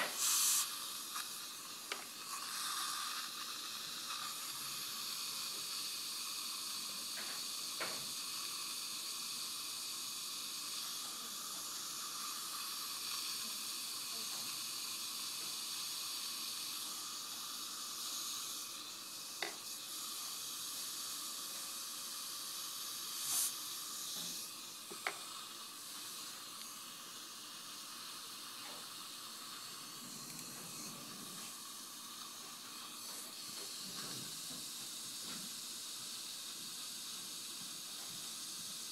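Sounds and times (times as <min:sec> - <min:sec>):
suction device hissing: 0:00.0 - 0:38.9.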